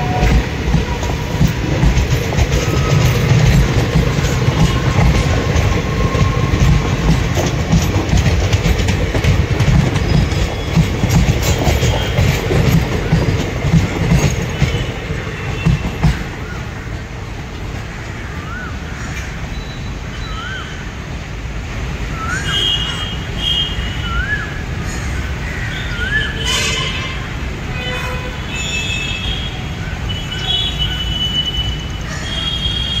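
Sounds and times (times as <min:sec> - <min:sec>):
passenger train rumbling: 0:00.0 - 0:33.0.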